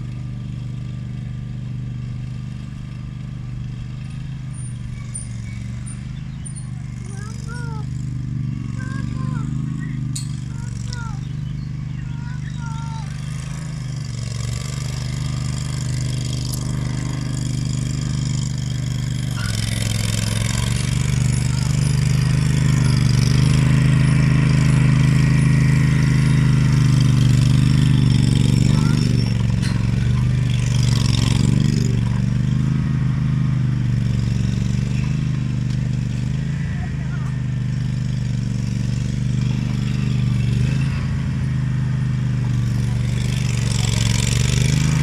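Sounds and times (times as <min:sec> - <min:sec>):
mower engine running: 0:00.0 - 0:45.0.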